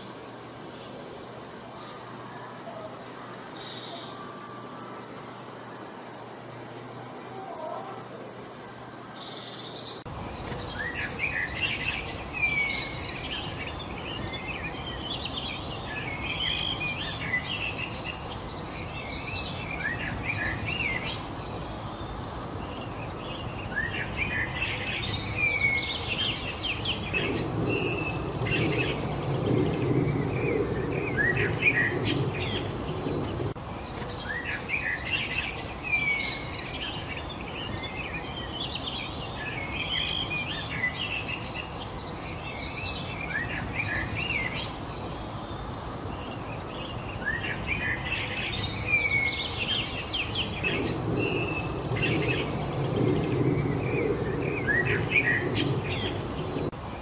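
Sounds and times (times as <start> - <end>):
songbirds chirping and singing: 0.0 - 57.0
steady background hiss: 0.0 - 57.0.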